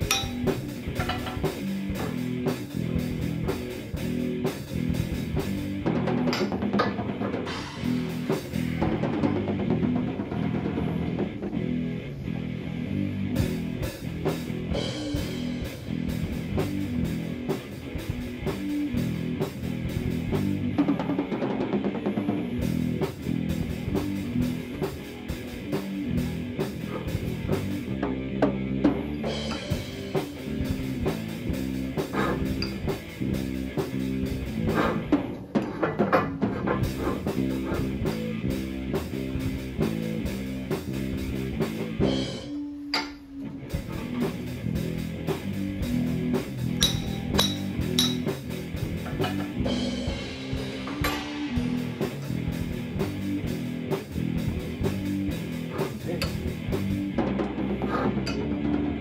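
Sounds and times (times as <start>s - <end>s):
rock music with drums and guitar: 0.0s - 59.0s.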